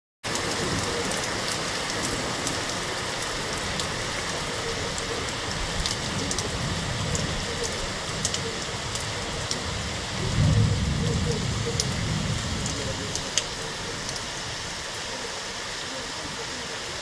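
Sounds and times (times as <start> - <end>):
steady rain falling: 0.2 - 17.0.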